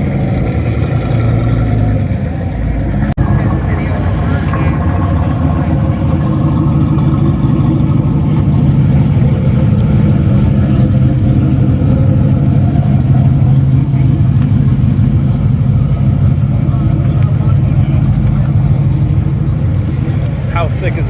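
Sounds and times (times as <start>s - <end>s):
car engine running steadily: 0.0s - 21.0s.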